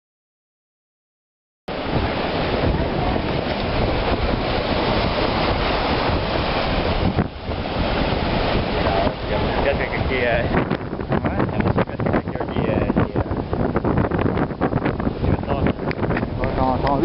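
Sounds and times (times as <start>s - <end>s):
water with ice floes moving: 1.7s - 17.0s
wind buffeting microphone: 1.7s - 17.0s.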